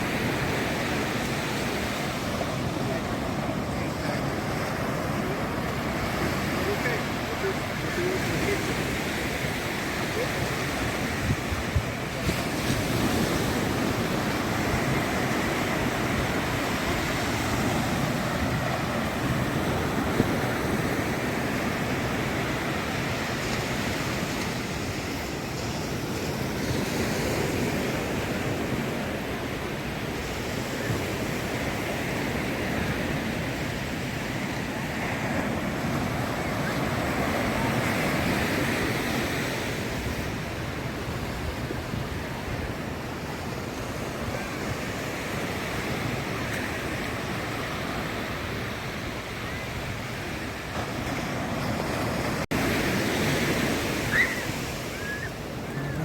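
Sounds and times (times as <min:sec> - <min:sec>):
ocean surf breaking on beach: 0:00.0 - 0:56.0.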